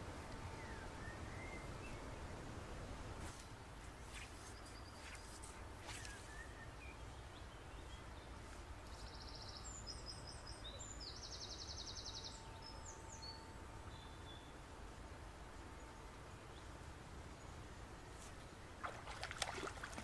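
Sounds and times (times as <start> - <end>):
songbird singing: 0.3 - 3.0, 4.1 - 14.7, 15.3 - 20.0.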